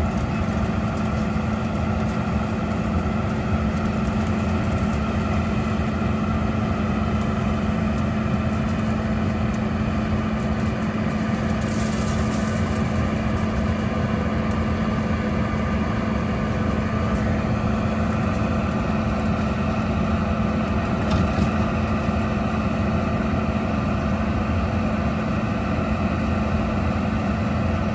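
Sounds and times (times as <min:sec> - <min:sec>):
combine harvester droning: 0:00.0 - 0:27.9.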